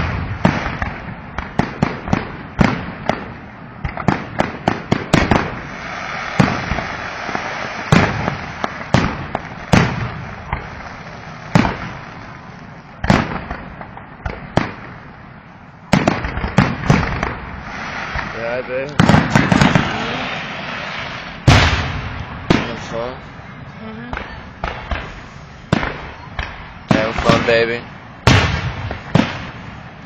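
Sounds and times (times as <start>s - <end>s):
fireworks bangs and pops: 0.0s - 30.0s
fireworks hissing crackle: 0.0s - 30.0s.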